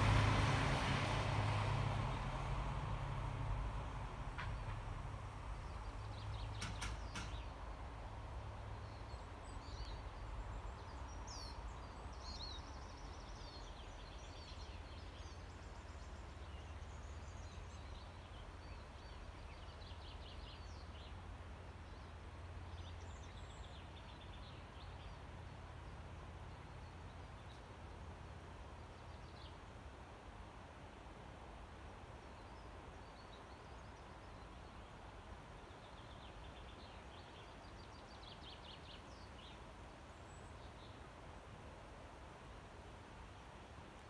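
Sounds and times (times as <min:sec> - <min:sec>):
songbirds chirping: 0:01.6 - 0:44.0.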